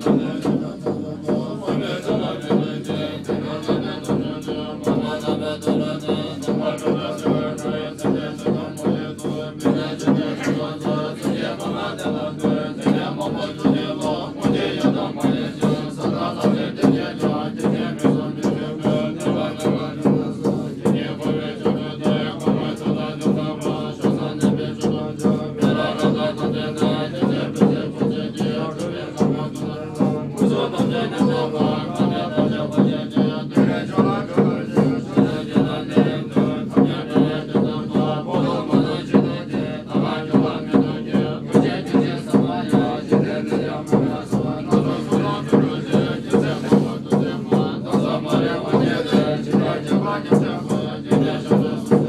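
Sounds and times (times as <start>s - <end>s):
monks chanting in low voices: 0.0s - 52.0s
steady struck beat: 0.0s - 52.0s.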